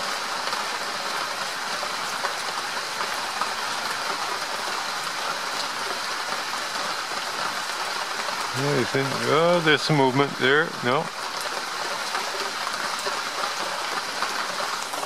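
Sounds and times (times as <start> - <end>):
raindrops ticking: 0.0 - 15.0
steady rain hiss: 0.0 - 15.0.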